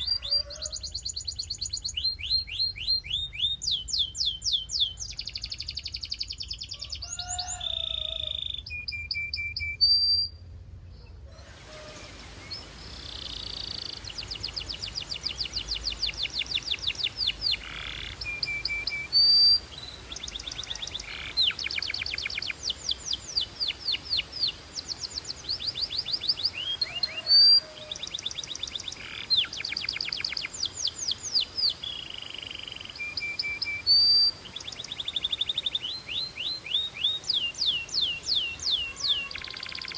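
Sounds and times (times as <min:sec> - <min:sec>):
canary singing trills: 0:00.0 - 0:10.4, 0:11.4 - 0:39.9.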